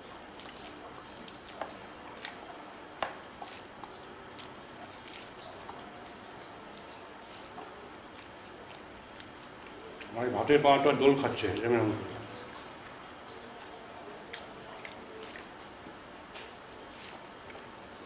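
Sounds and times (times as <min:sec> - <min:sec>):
soft wet squishes: 0:00.0 - 0:18.0.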